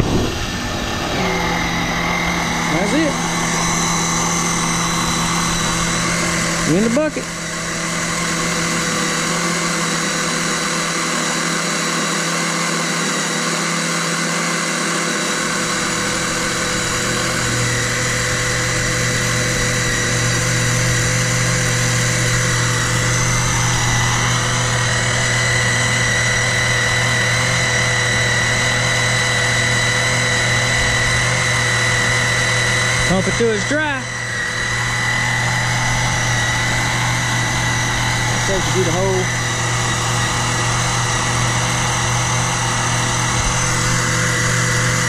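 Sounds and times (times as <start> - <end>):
low hum: 0.0 - 12.2, 15.1 - 45.0
electric pump buzzing: 0.0 - 45.0
high whine: 0.0 - 45.0.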